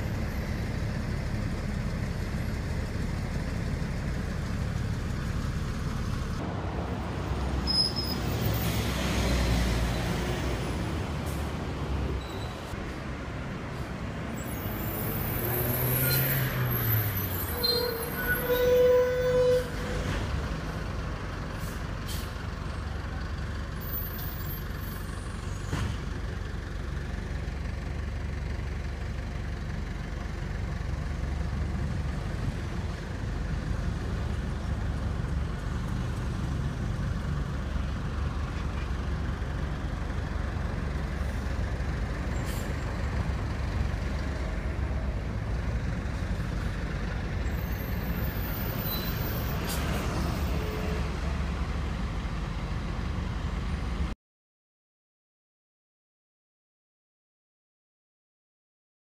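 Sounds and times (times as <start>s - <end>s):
traffic rumble: 0.0s - 54.2s.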